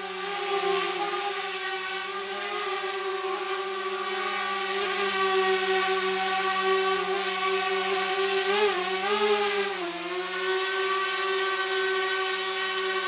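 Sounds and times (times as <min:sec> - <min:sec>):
drone motors buzzing: 0:00.0 - 0:13.0.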